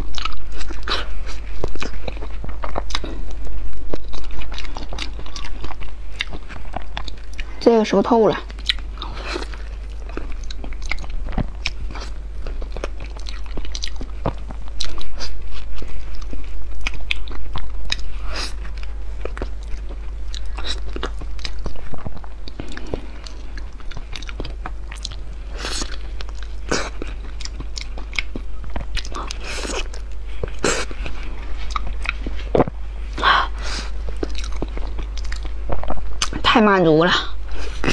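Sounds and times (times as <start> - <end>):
close chewing and mouth clicks: 0.0 - 36.5, 37.2 - 37.9.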